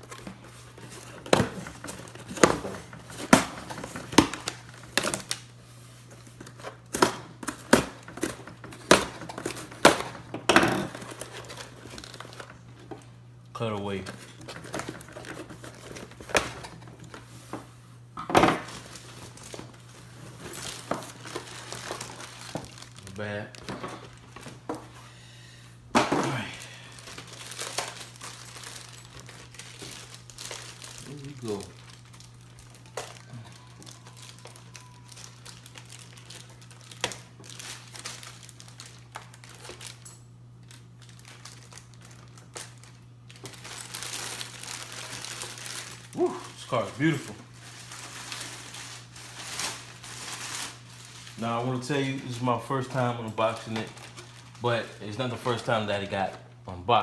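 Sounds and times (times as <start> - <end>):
plastic packaging crinkling: 0.0 - 25.0, 26.0 - 56.6.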